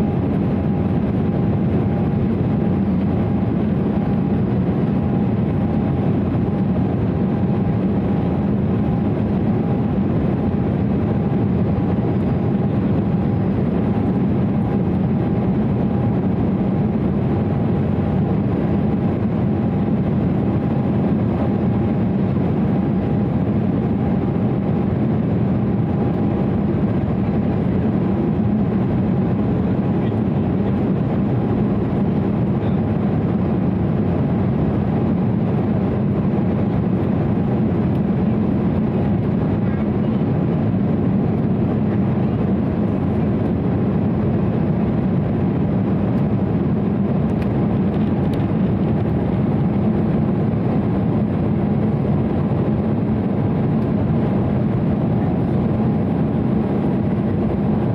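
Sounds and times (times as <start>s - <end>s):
airplane cabin roar: 0.0s - 57.9s.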